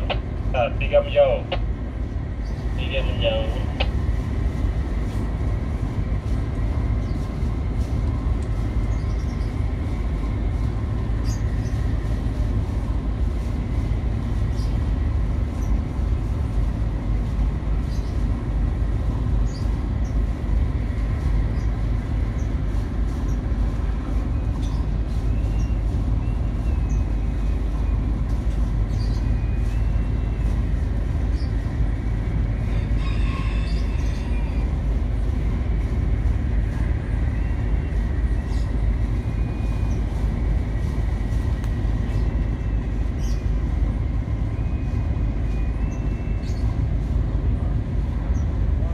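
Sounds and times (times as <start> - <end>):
ship engines rumbling: 0.0 - 48.9.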